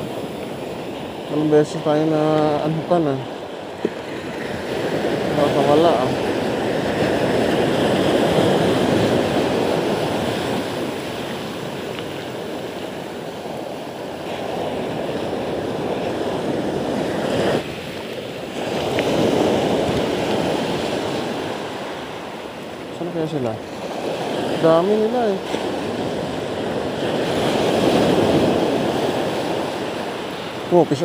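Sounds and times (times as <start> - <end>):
surf breaking on beach: 0.0 - 31.0.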